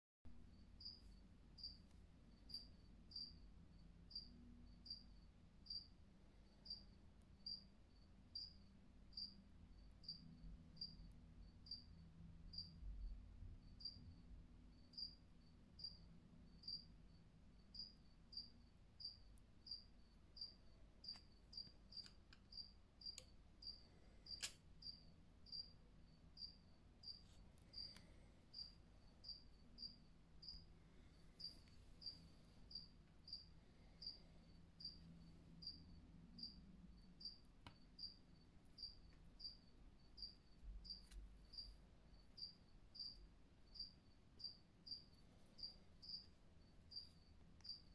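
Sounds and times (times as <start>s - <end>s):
cricket chirping: 0.3s - 47.9s.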